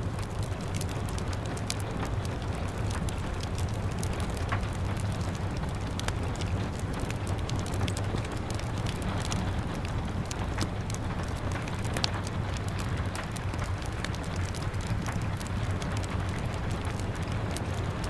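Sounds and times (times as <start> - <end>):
rain on window glass: 0.0 - 18.0
wood fire crackling: 0.0 - 18.0.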